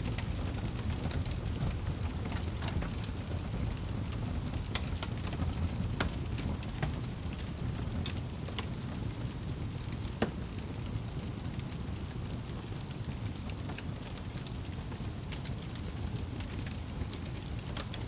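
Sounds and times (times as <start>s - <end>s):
wood fire burning in fireplace: 0.0s - 18.0s.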